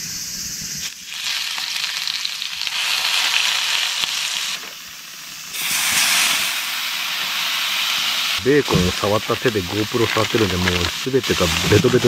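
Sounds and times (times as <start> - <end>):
mushrooms sizzling in frying pan: 0.6 - 12.0.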